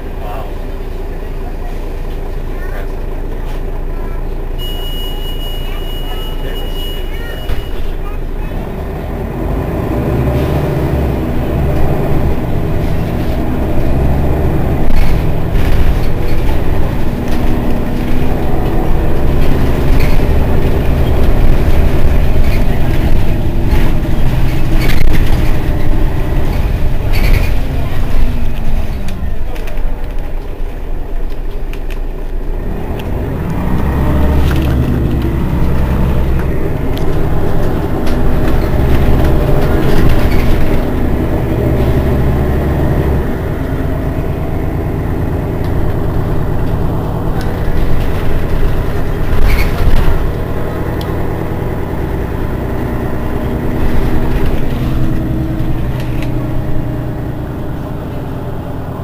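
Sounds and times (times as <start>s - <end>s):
bus engine idling: 0.0s - 59.0s.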